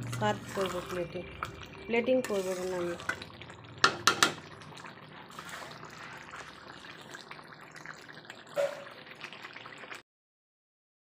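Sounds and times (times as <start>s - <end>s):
curry bubbling in a pan: 0.0s - 10.0s.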